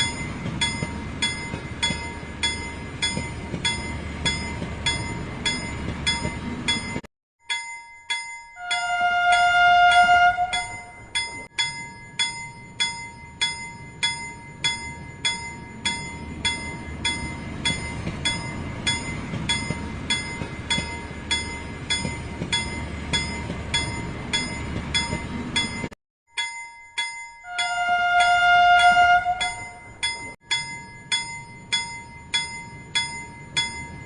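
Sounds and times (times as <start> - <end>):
toy train bell dinging: 0.0 - 34.0.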